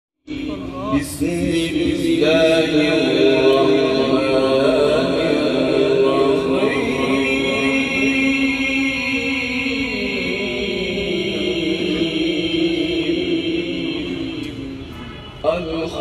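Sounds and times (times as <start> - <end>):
person chanting unaccompanied: 0.2 - 16.0.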